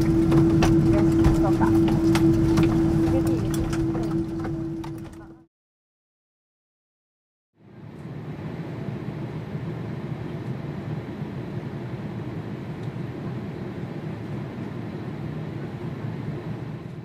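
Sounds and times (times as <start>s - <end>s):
airliner cabin rumble: 0.0s - 5.5s, 7.8s - 17.0s.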